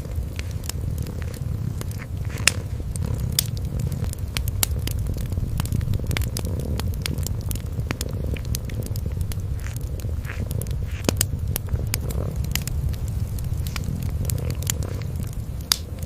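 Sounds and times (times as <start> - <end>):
kitten purring: 0.0 - 16.0
wood fire crackling and popping: 0.0 - 16.0.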